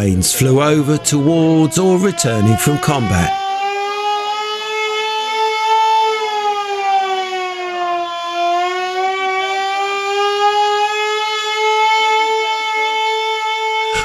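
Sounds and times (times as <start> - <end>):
air raid siren wailing: 0.1 - 14.0.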